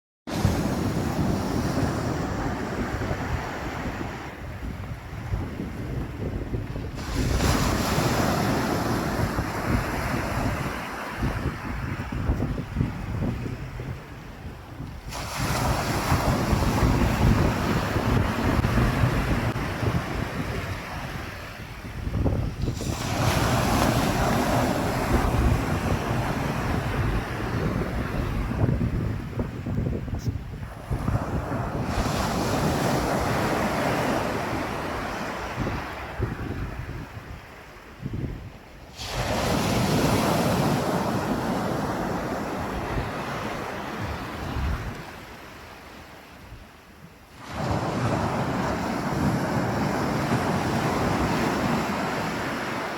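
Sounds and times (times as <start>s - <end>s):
wave breaking and washing in: 0.3s - 52.9s
wind buffeting the microphone: 0.3s - 52.9s.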